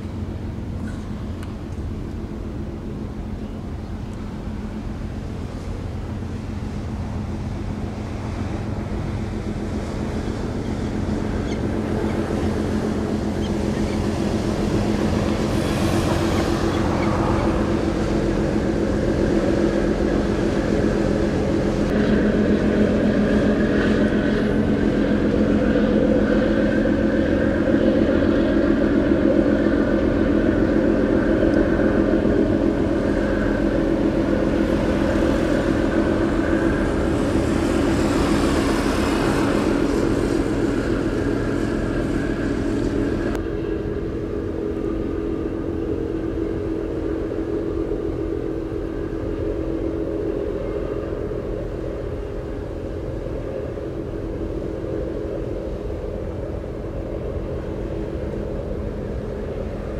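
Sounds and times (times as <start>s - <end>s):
ship engines droning: 0.0s - 59.9s.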